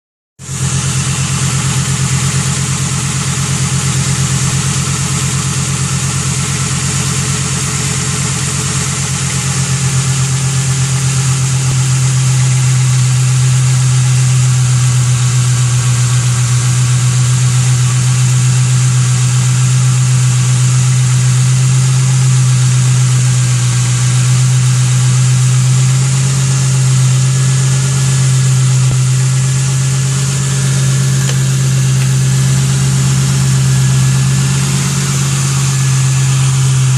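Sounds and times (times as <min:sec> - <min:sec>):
car engine idling: 0:00.4 - 0:36.9.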